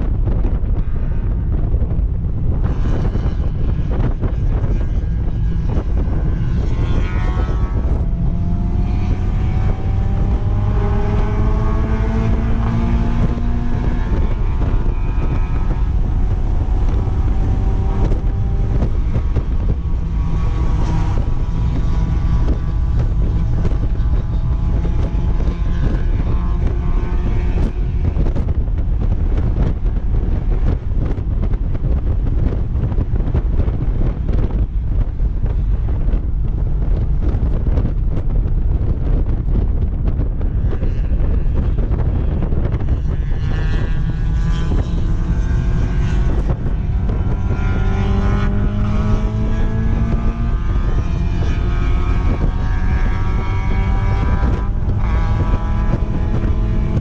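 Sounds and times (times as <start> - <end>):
car engine running hard: 0.0 - 57.0
wind buffeting microphone: 0.0 - 57.0.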